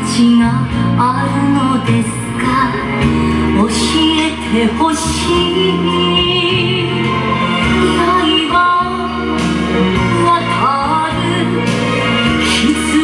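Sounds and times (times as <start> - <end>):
instrumental backing music: 0.0 - 13.0.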